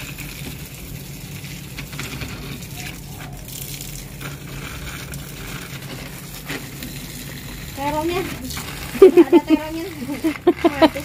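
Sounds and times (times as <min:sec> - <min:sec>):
hose water spraying on plants: 0:00.0 - 0:11.0.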